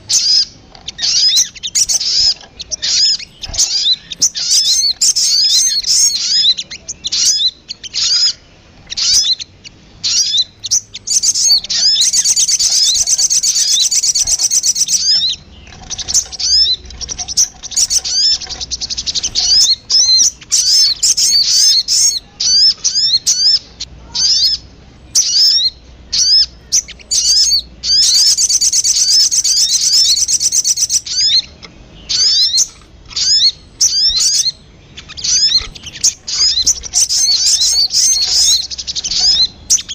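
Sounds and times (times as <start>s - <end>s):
bird chirping: 0.0s - 39.9s
bird trilling: 0.0s - 39.9s.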